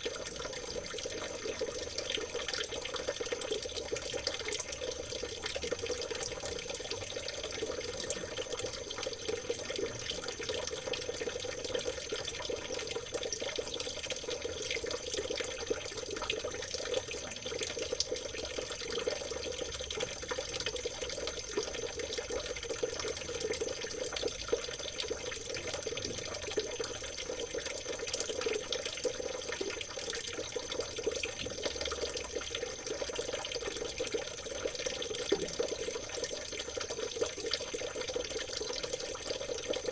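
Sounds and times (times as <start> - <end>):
small splashes and drips: 0.0 - 39.9
stream water babbling: 0.0 - 39.9.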